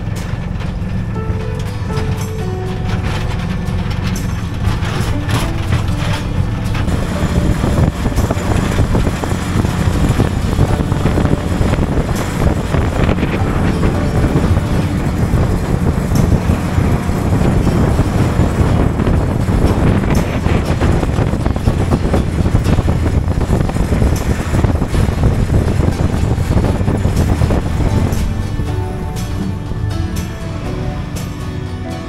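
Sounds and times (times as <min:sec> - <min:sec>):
vehicle engine and road rumble: 0:00.0 - 0:32.0.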